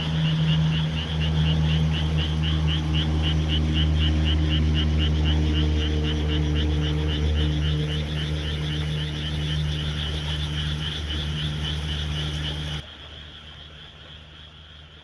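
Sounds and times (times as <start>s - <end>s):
high-pitched pulsing trill: 0.0s - 12.8s
small blower fan droning: 0.0s - 12.8s.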